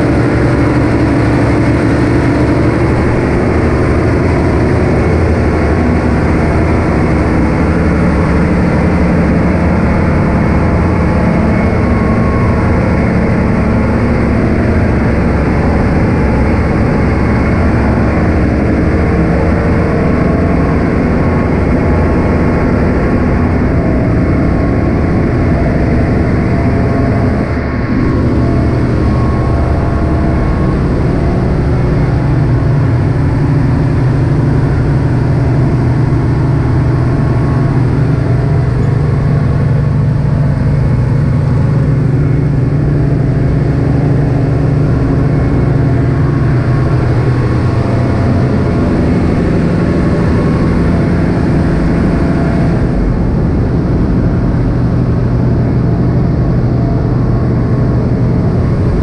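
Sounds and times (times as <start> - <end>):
engine room machinery din: 0.0 - 59.0.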